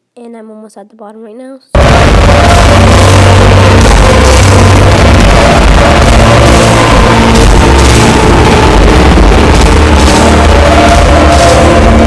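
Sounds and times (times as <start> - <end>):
loud layered music: 1.8 - 12.0.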